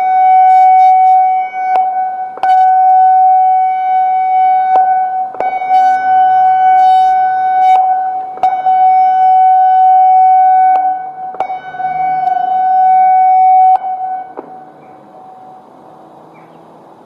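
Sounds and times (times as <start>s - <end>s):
warning siren high tone: 0.0s - 16.1s.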